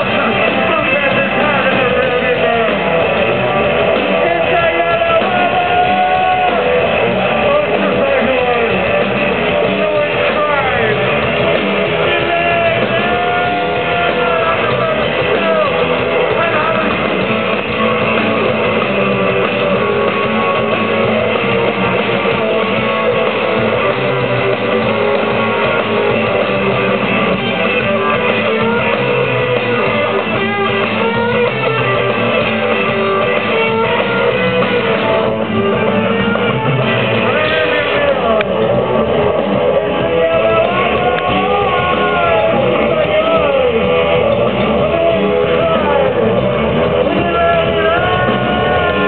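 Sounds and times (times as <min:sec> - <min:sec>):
electric guitar: 0:00.0 - 0:49.0
live rock band playing: 0:00.0 - 0:49.0.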